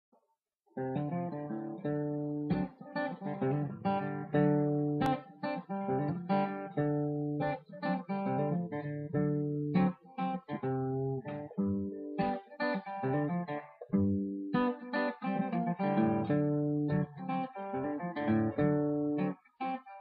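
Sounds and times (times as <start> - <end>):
guitar plucked and strummed: 0.8 - 20.0.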